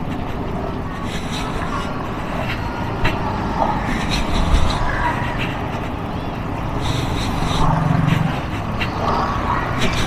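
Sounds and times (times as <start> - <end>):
other motorcycles: 0.0 - 10.0.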